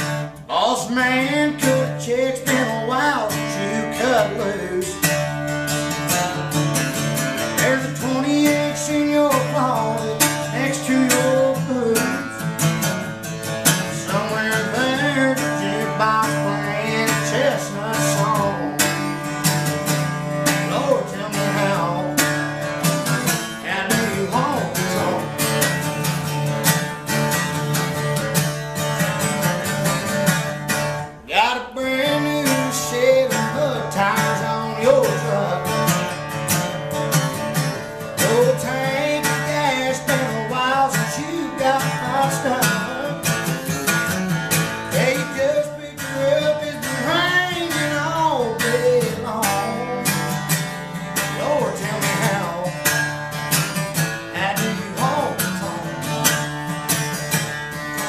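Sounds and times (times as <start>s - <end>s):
man singing: 0.0s - 27.2s, 31.0s - 57.3s
acoustic guitar strumming: 0.0s - 58.0s.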